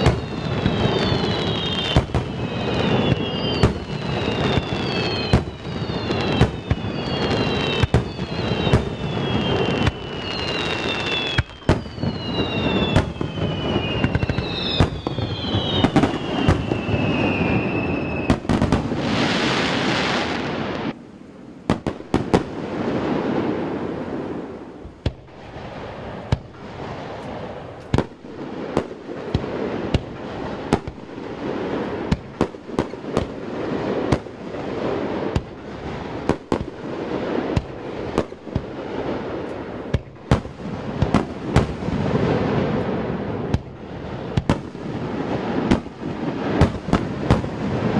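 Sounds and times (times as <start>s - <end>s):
falling firework whistles: 0.0s - 21.0s, 21.8s - 47.9s
fireworks booming: 0.0s - 47.9s
fireworks crackling: 0.0s - 47.9s.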